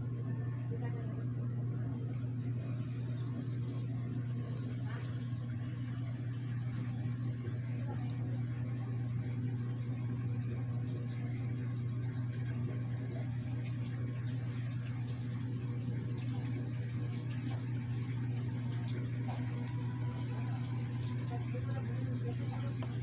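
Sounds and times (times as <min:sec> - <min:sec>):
motor humming: 0:00.0 - 0:23.0.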